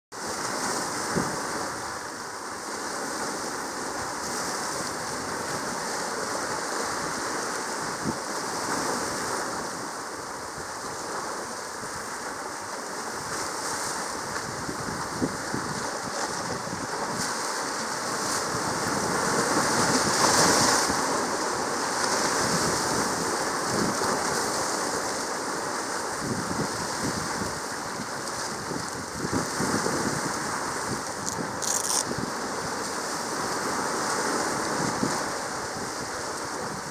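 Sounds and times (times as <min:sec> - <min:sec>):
sea waves washing over reef: 0:00.2 - 0:36.9
wind on microphone: 0:00.2 - 0:36.9.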